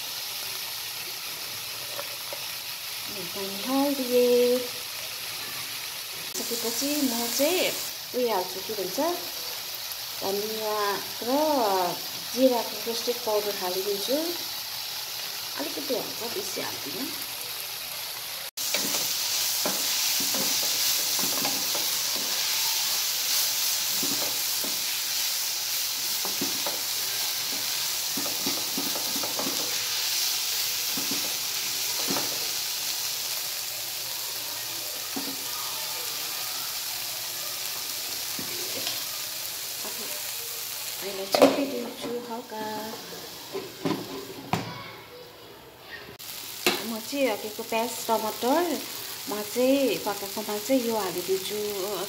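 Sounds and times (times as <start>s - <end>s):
vegetables sizzling in oil: 0.0s - 44.6s, 46.1s - 52.0s.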